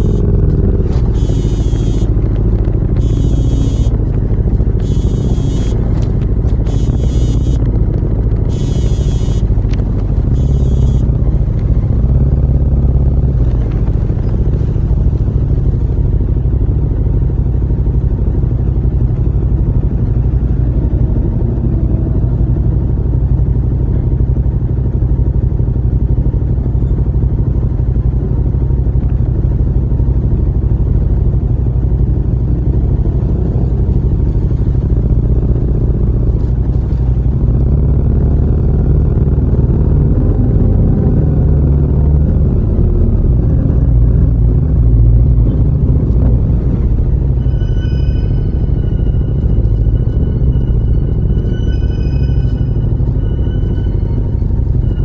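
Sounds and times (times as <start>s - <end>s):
motorcycle engine deep rumble: 0.0s - 55.0s.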